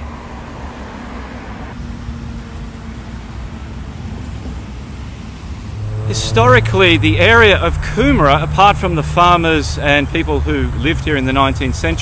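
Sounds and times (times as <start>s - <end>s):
motorway traffic rushing: 0.0s - 12.0s.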